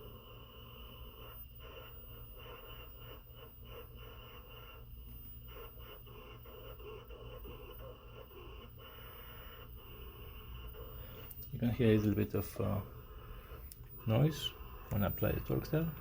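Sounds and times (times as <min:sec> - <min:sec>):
servo motor high-pitched whine: 0:00.0 - 0:16.0.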